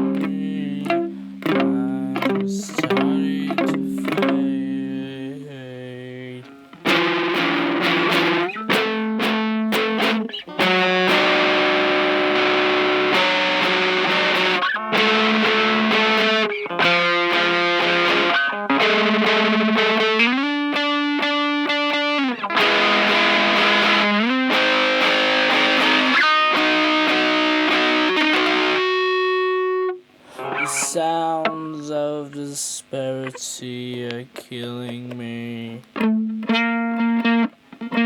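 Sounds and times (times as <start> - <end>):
distorted electric guitar chords: 0.0 - 32.3, 33.3 - 38.0.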